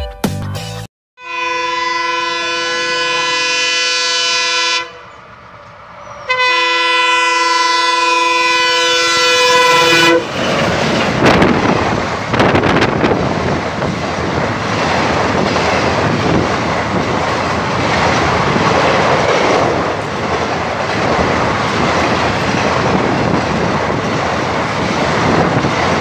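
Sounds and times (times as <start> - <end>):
train wheels rushing on track: 4.8 - 26.0.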